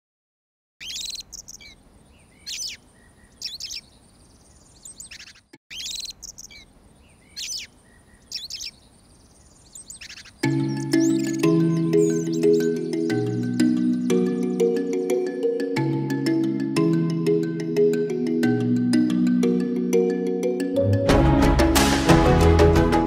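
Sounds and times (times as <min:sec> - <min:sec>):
birds chirping: 0:00.8 - 0:20.2.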